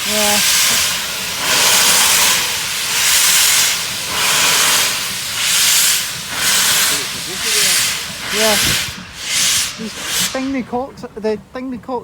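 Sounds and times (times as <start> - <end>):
steam hissing in rhythmic bursts: 0.0 - 12.0
steam locomotive moving slowly: 0.0 - 12.0.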